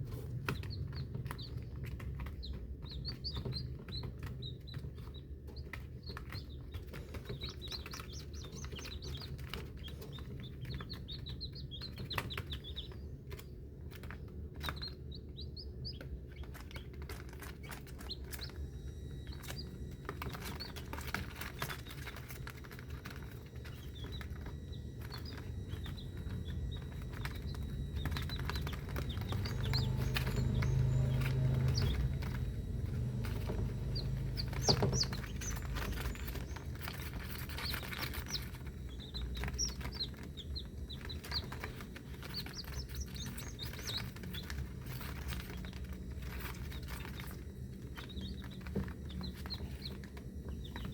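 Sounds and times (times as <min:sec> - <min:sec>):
chicks peeping: 0:00.0 - 0:50.9
steady low hum: 0:00.0 - 0:50.9.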